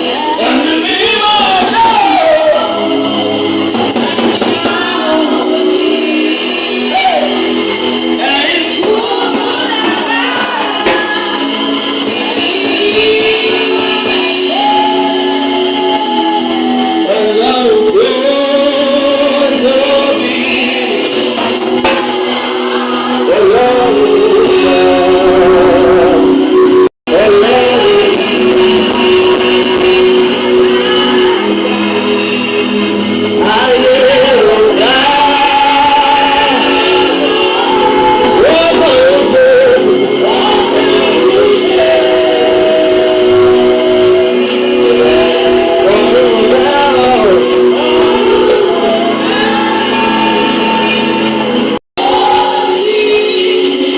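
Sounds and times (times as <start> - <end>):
worship song with live band: 0.0 - 53.9.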